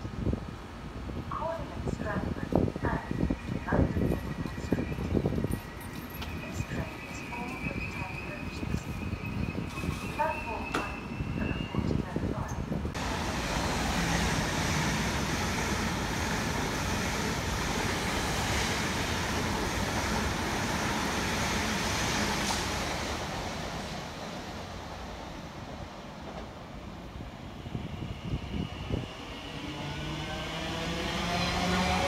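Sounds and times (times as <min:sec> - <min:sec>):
electric trains rushing: 0:00.2 - 0:32.0.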